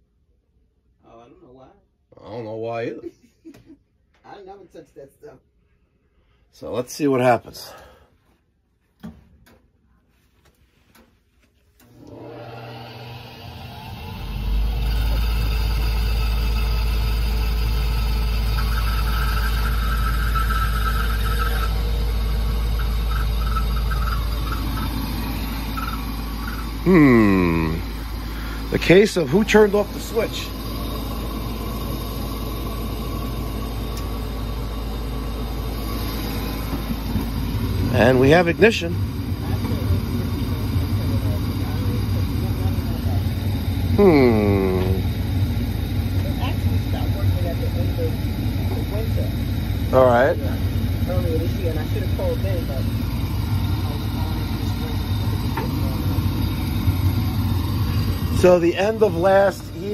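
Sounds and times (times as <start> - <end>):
draft inducer motor running: 11.8 - 59.9.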